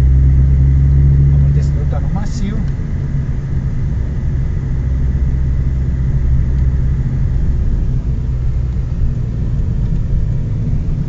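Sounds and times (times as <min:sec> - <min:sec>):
car engine droning: 0:00.0 - 0:11.0
road rumble: 0:00.0 - 0:11.0.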